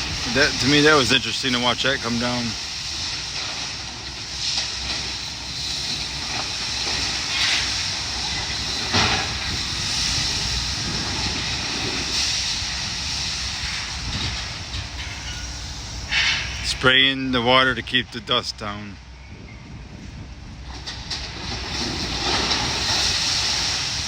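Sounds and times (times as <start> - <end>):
heavy machinery running: 0.0 - 18.6, 19.3 - 24.0.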